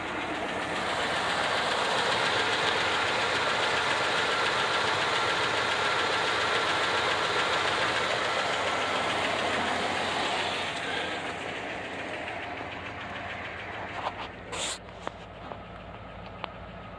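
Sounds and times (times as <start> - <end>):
engine idling: 0.0 - 16.9.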